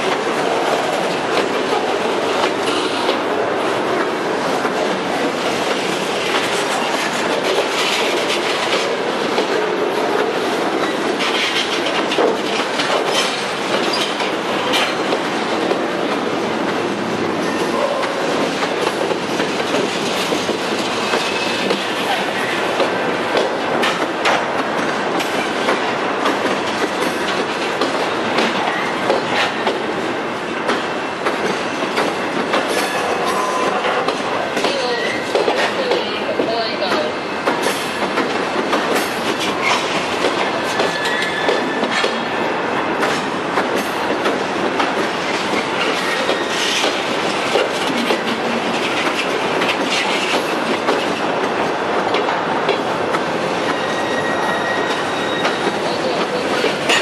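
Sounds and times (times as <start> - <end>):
steel wheels rumbling on rails: 0.0 - 57.0
wheels clacking over rail joints: 0.0 - 57.0.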